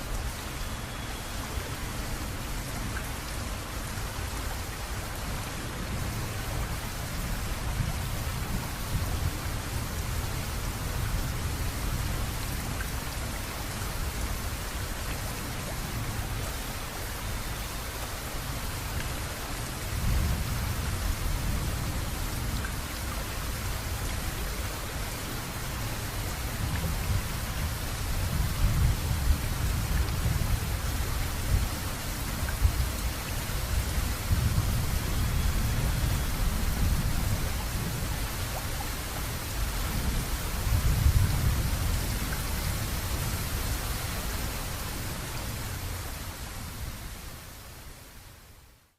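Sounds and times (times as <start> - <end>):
heavy rain hissing: 0.0 - 48.5.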